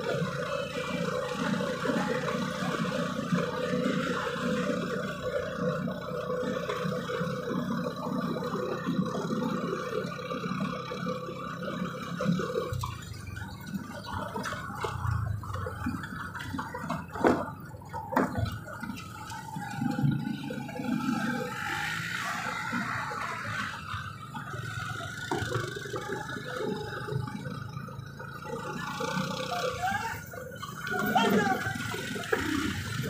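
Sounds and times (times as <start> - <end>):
small vehicle engine running: 0.0 - 33.0.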